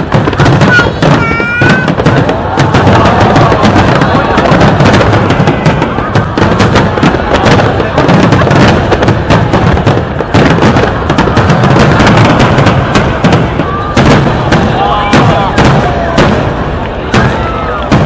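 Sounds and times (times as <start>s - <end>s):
continuous fireworks rumble: 0.0s - 18.0s
fireworks bangs and crackling: 0.0s - 18.0s.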